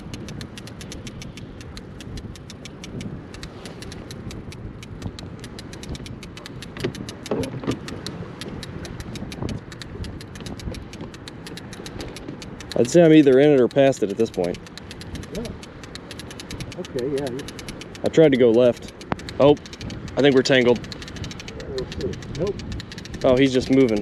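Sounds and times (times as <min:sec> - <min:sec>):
boat motor humming: 0:00.0 - 0:24.0
fast even ticking: 0:00.0 - 0:24.0.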